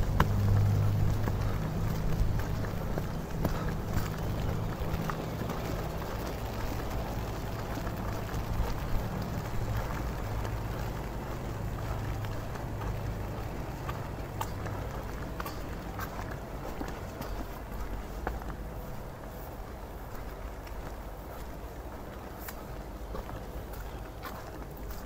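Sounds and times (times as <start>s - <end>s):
footsteps: 0.0s - 25.0s
rain on street: 0.0s - 25.0s
traffic hum: 0.0s - 25.0s.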